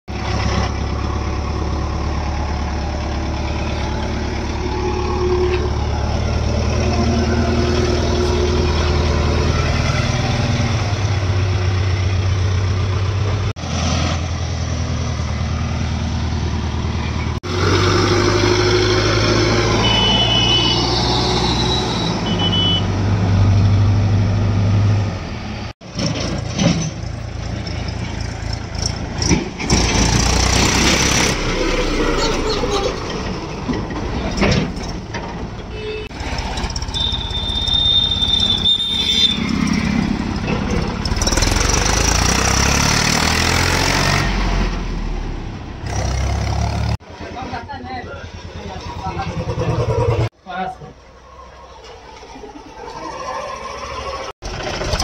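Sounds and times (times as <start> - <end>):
heavy diesel engines working: 0.1 - 55.0.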